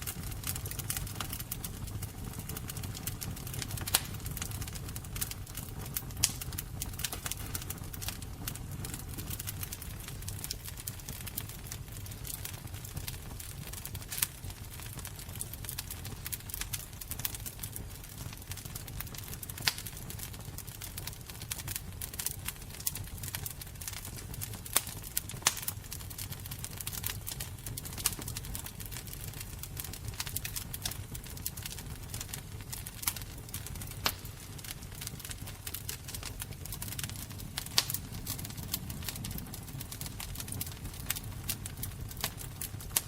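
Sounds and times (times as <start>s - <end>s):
fire crackling: 0.0s - 43.0s.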